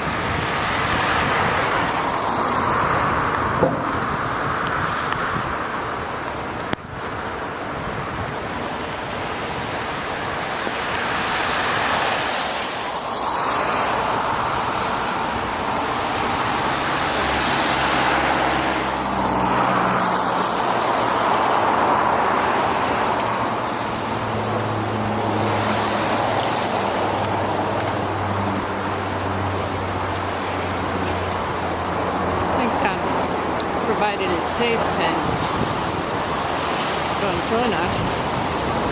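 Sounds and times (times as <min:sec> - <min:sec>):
tyre hiss on wet road: 0:00.0 - 0:38.9
vehicles passing: 0:00.0 - 0:38.9.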